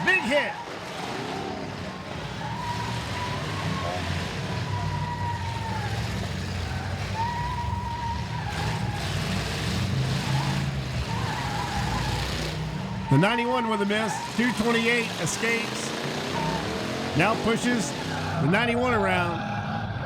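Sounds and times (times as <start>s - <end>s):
car engines rumbling: 0.0s - 20.0s.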